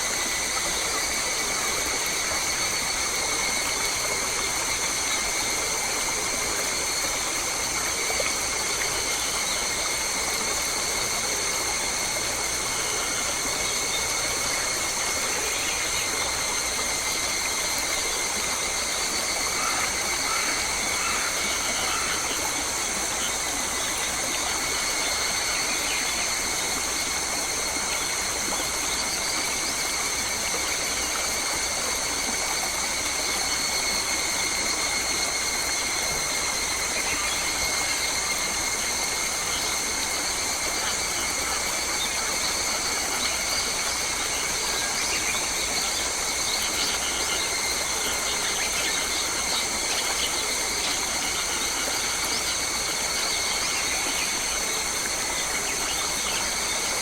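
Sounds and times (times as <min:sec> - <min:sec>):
even hiss: 0:00.0 - 0:57.0.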